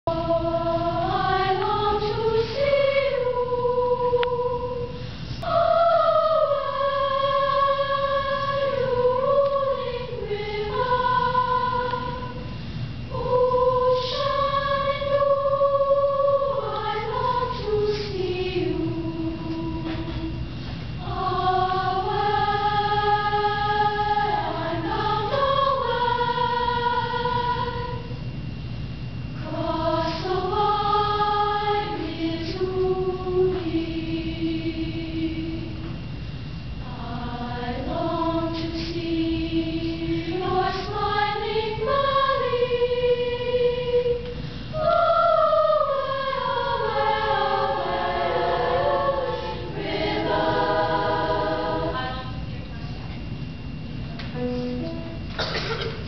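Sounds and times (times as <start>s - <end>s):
girls' choir singing: 0.1s - 28.2s, 29.4s - 36.0s, 36.8s - 52.8s.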